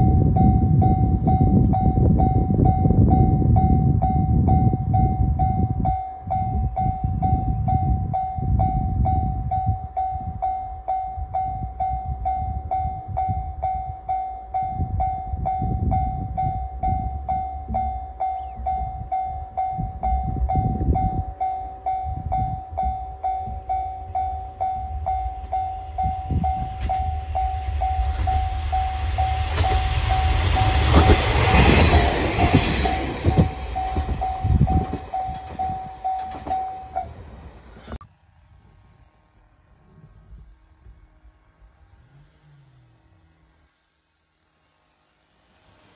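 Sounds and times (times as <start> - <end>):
level crossing warning bell: 0.0 - 37.2
train passing on rails: 0.0 - 42.1, 43.5 - 45.9.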